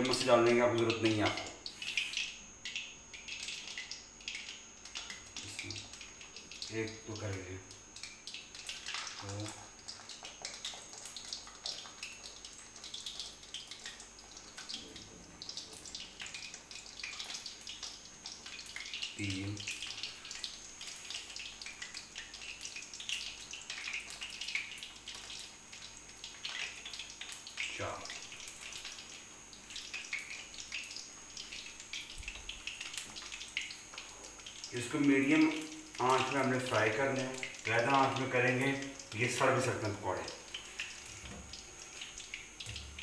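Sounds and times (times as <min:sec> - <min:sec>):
oil sizzling with crackles and pops: 0:00.0 - 0:43.0.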